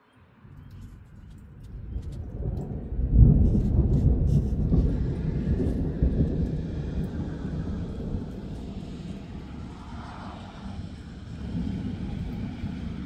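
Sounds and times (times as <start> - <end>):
thunder rumbling: 0.4 - 13.0.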